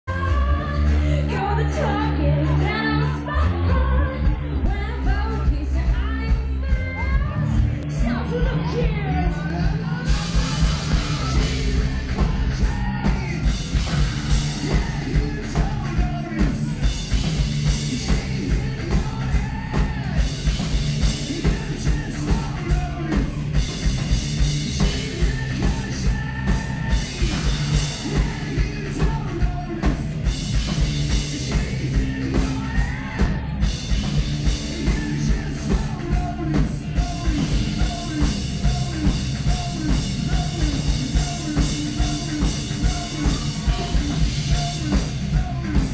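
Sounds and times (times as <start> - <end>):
live rock band playing: 0.1 - 45.9
man singing lead vocal: 0.1 - 45.9
steady drum beat: 4.2 - 45.9.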